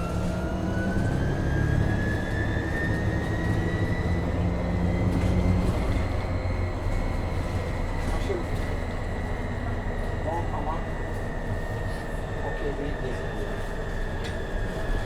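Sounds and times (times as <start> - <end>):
low rumble of bus: 0.0 - 15.0.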